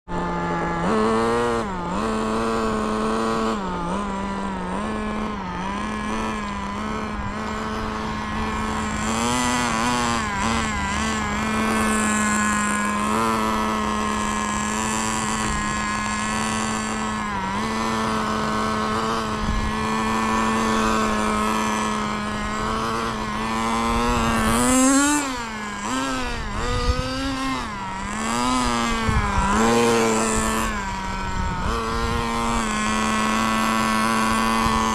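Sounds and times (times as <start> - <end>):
model car engine running: 0.1 - 34.9.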